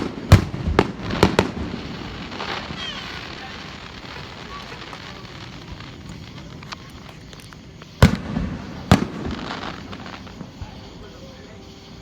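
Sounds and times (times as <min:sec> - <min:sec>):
firework booms: 0:00.0 - 0:12.0.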